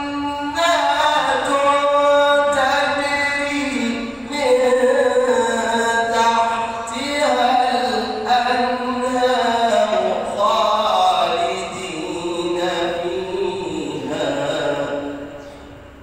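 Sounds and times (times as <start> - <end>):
man chanting melodically: 0.0 - 15.8.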